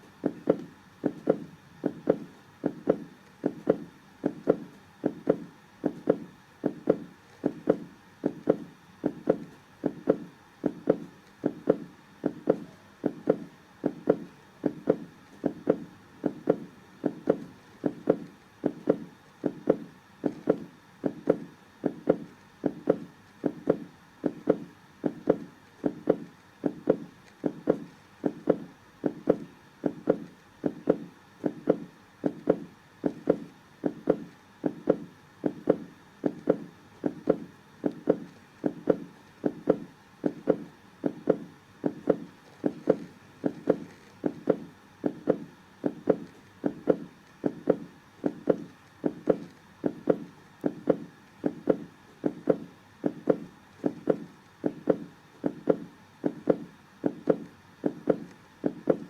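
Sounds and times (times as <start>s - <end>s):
heartbeat: 0.0s - 59.0s.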